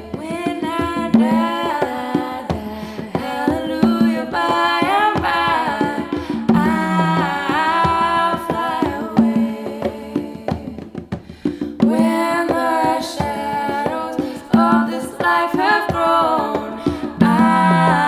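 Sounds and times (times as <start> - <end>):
person singing: 0.0 - 10.8, 11.8 - 18.0
drum and percussion beats: 0.0 - 18.0.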